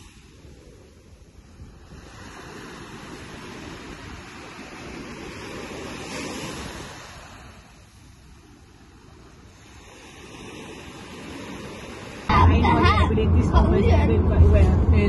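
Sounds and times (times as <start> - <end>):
waves washing on sand: 0.0 - 12.3
wind on microphone: 0.0 - 15.0.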